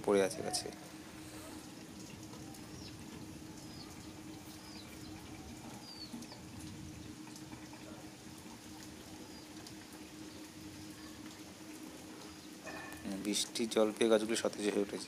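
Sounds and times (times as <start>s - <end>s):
rain pattering: 0.0s - 15.0s
water dripping: 0.0s - 15.0s.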